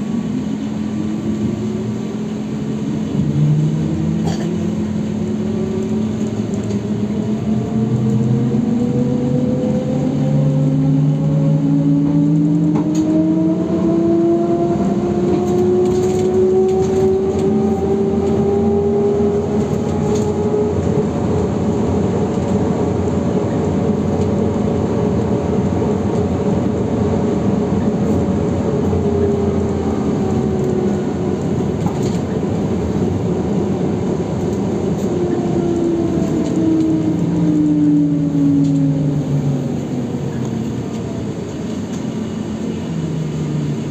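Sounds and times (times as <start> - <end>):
road and tyre noise: 0.0 - 43.9
electric traction motor whine: 0.1 - 43.9.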